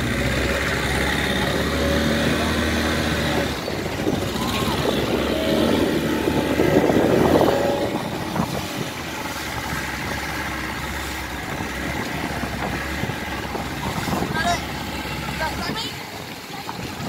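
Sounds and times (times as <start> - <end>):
boat engine idling: 0.0 - 17.0
people's voices: 0.0 - 17.0.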